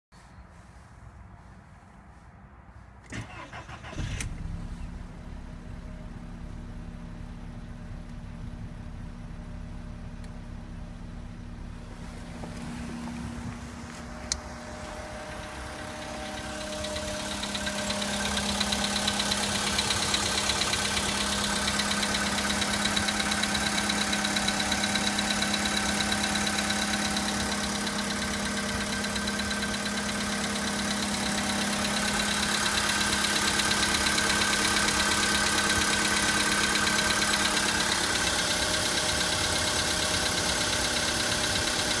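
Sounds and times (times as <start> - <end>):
car engine idling with knocking: 5.0 - 42.0.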